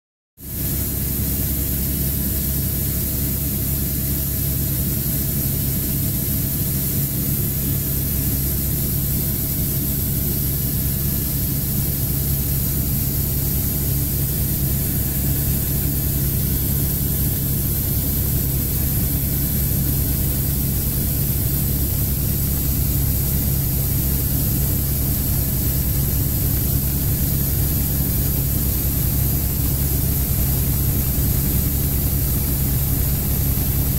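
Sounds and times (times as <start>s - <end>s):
helicopter rotor drone: 0.4s - 33.9s
turbine whine: 0.5s - 33.9s.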